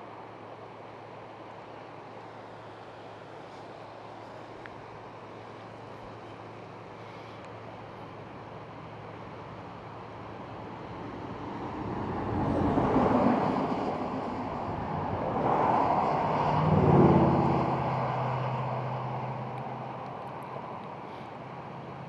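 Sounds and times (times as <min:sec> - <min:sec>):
vehicles passing by: 0:00.0 - 0:22.0.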